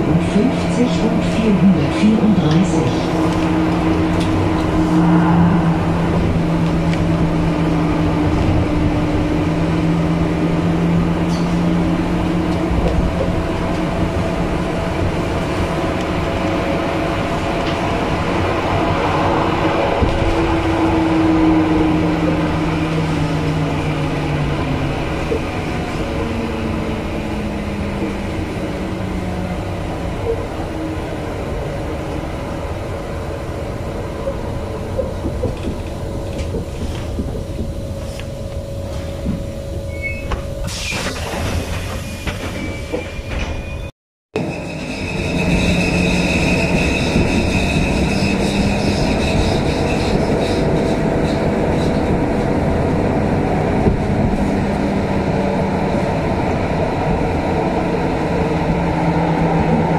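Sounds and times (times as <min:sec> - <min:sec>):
tram motor hum: 0:00.0 - 0:43.6, 0:44.4 - 0:59.9
wheel and track rumble: 0:00.0 - 0:59.9.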